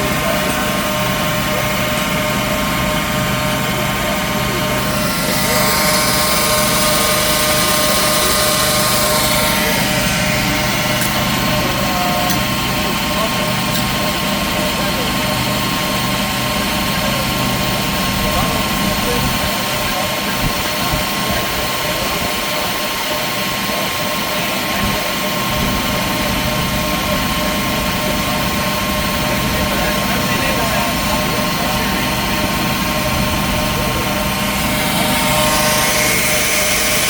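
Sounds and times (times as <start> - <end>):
workshop machinery motor drone: 0.0 - 37.0.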